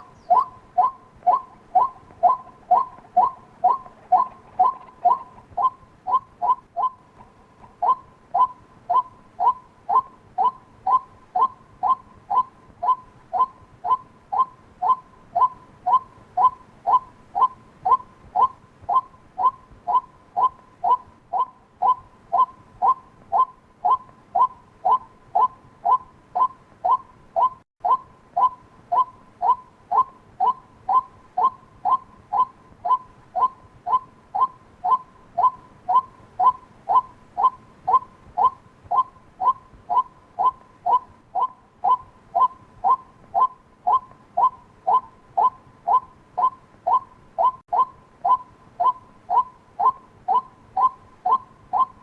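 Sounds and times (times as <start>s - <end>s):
waterhen kwak calls: 0.0s - 52.0s.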